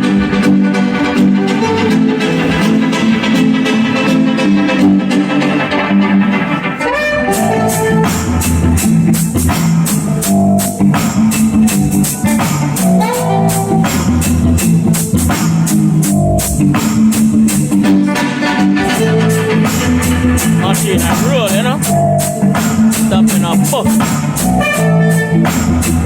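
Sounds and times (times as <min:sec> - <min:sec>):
loud music over sound system: 0:00.0 - 0:26.0.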